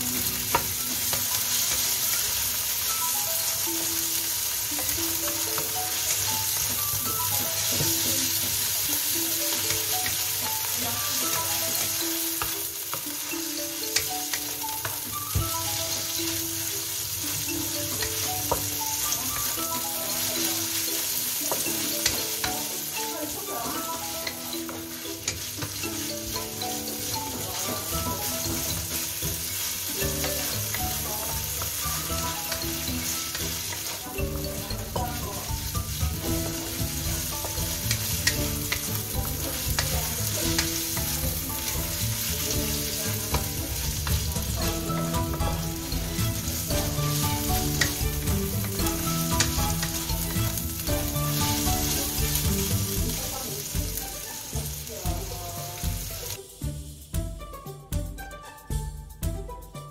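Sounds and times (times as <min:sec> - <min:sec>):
food sizzling in hot oil: 0:00.0 - 0:56.8
background music with a beat: 0:00.0 - 0:59.9.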